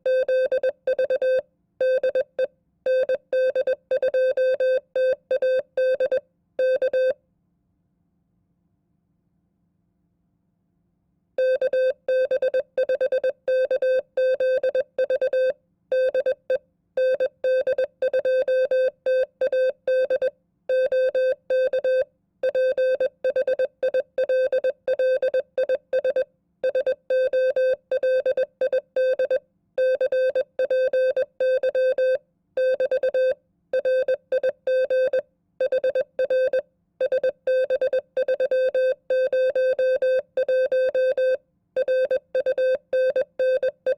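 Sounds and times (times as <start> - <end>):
morse code beeps: 0.1 - 7.2, 11.4 - 43.9.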